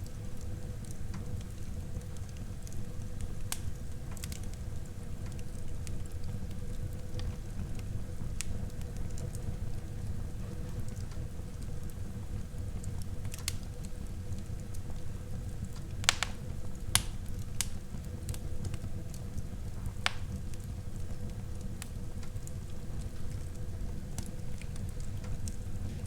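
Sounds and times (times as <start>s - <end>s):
wood fire crackling in fireplace: 0.0s - 26.0s.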